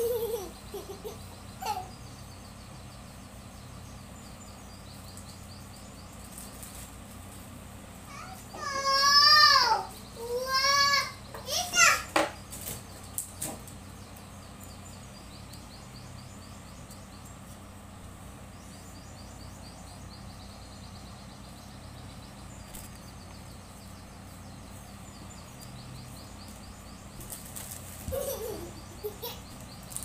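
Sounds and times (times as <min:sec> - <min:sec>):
low steady hum: 0:00.0 - 0:30.0
small birds chirping: 0:00.0 - 0:30.0.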